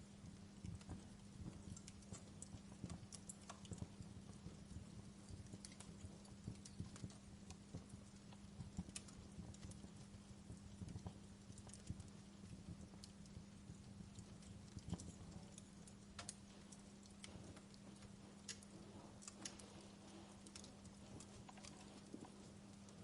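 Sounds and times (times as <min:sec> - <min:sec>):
steady low hum: 0:00.0 - 0:23.0
wood fire crackling: 0:00.0 - 0:23.0.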